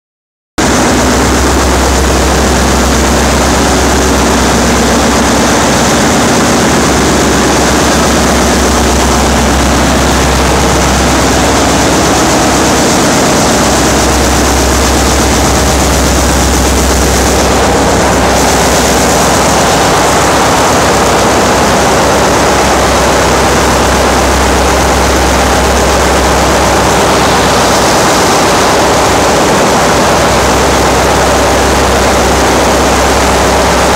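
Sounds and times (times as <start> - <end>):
engine room machinery drone: 0.6 - 33.9.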